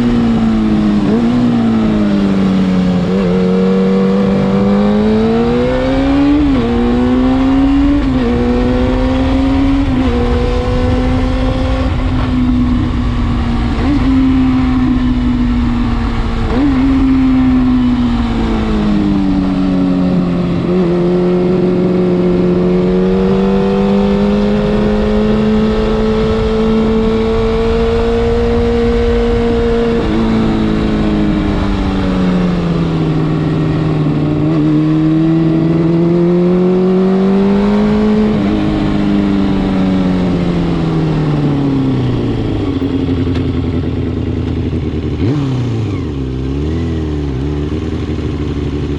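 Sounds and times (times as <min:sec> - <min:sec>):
motorcycle engine revving: 0:00.0 - 0:48.9
wind and road noise: 0:00.0 - 0:48.9.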